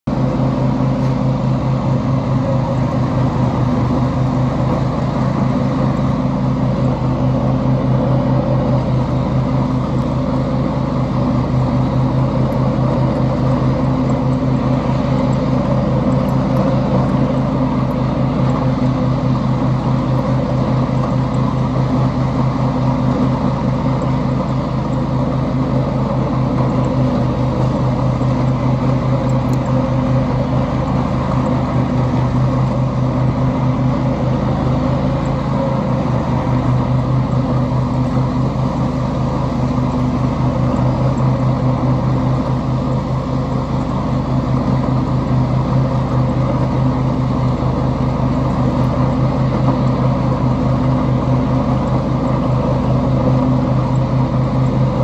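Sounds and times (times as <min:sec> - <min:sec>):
riding lawn mower engine: 0:00.0 - 0:55.0.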